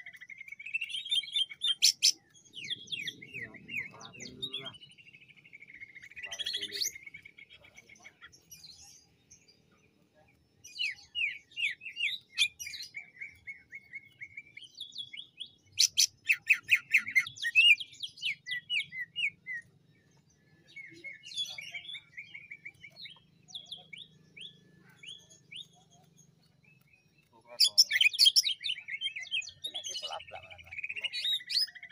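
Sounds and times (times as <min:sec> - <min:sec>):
bird singing rapid chirps: 0:00.0 - 0:31.9.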